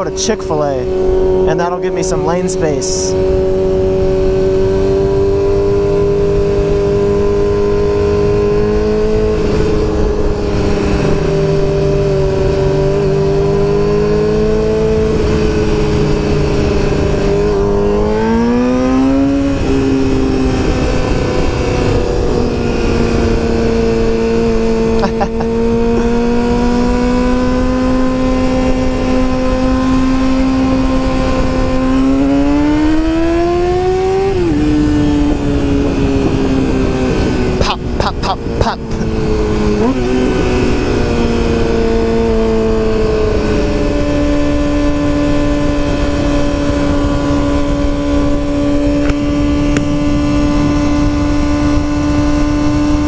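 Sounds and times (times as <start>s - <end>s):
motorcycle engine revving: 0.0s - 53.0s
wind rush: 0.0s - 53.0s.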